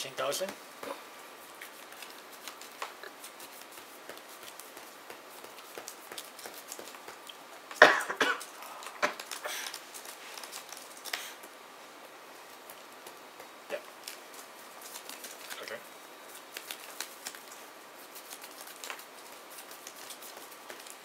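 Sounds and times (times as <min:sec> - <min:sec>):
cards ticking and sliding: 0:01.4 - 0:07.8, 0:08.4 - 0:21.0.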